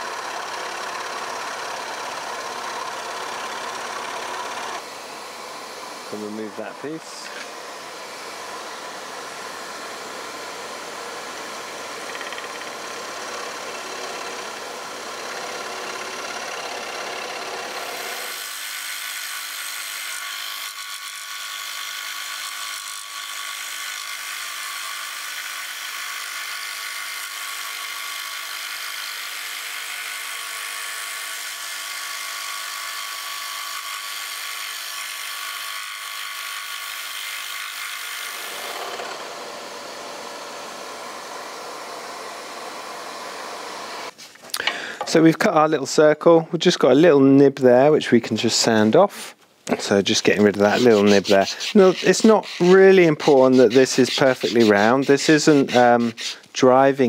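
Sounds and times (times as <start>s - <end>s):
scroll saw cutting plywood: 0.0s - 45.5s, 49.7s - 57.0s.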